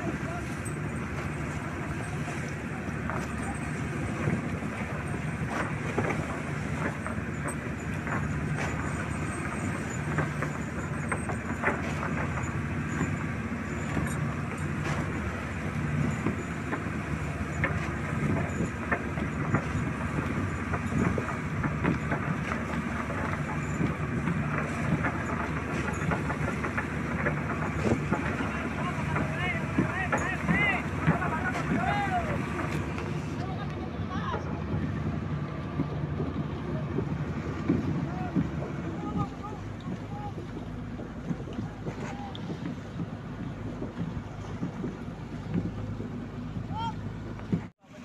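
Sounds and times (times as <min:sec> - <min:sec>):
boat engine humming: 0:00.0 - 0:48.0.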